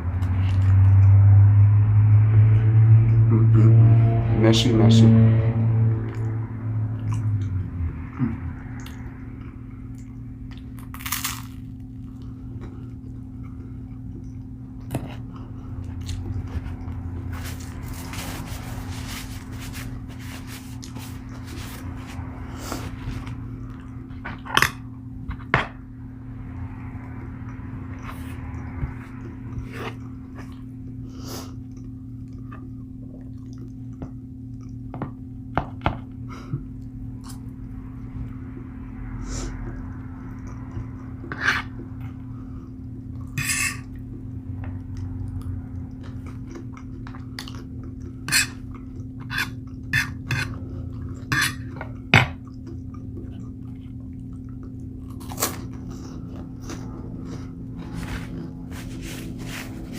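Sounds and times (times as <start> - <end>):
steady low hum: 0.0 - 59.9
chewing and mouth noises: 7.0 - 25.0, 27.0 - 34.9, 36.6 - 59.9.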